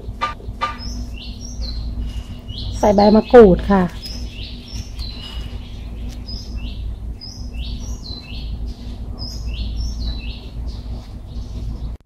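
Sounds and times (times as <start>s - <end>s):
small bird chirping: 0.0s - 12.0s
steady low rumble: 0.0s - 12.0s.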